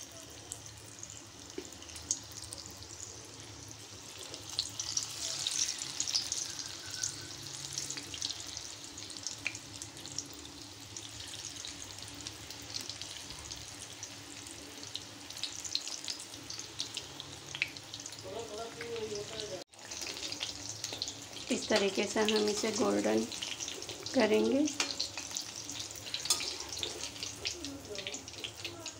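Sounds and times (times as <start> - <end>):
chillies sizzling in hot oil: 0.0 - 28.9.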